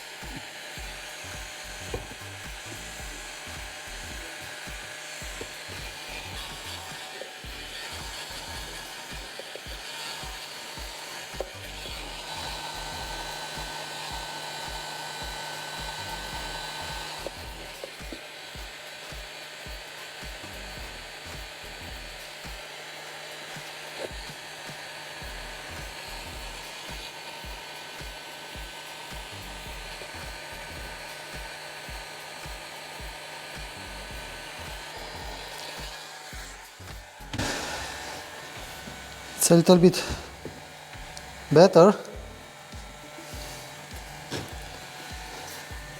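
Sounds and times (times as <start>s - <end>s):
hot air gun fan blowing: 0.0s - 45.9s.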